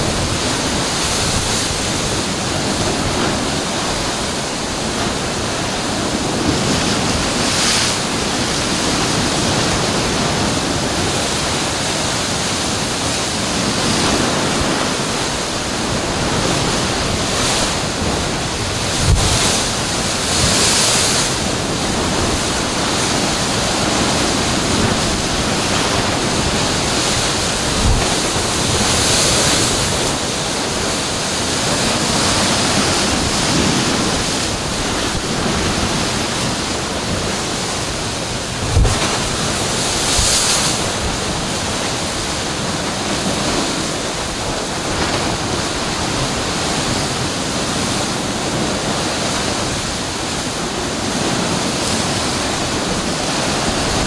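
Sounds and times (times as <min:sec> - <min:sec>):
ocean surf breaking on rocks: 0:00.0 - 0:54.0.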